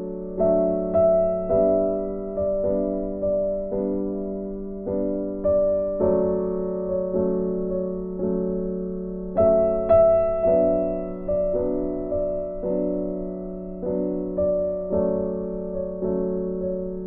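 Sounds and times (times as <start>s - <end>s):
soft slow piano chords: 0.0s - 17.0s.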